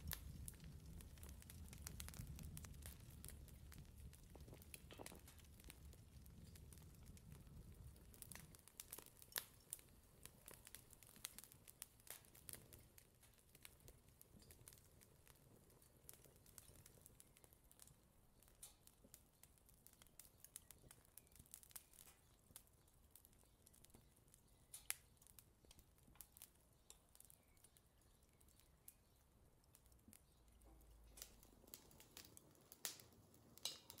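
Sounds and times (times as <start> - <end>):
bread crackling while toasting: 0.0 - 34.0.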